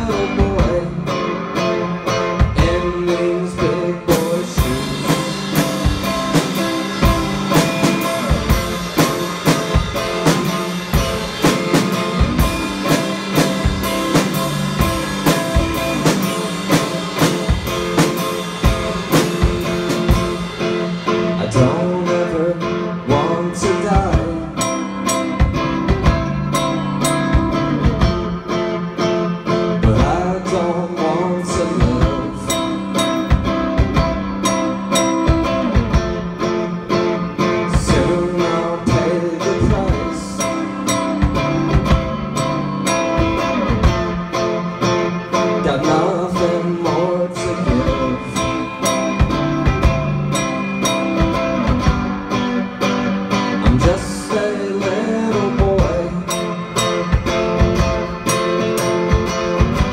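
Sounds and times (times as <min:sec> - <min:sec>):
drum kit steady beat: 0:00.0 - 0:59.9
electric guitar through an amp: 0:00.0 - 0:59.9.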